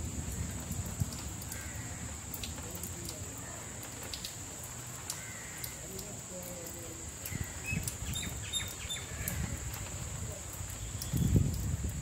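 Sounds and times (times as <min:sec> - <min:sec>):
drip-like ticks: 0:00.0 - 0:12.0
light rain: 0:00.0 - 0:12.0.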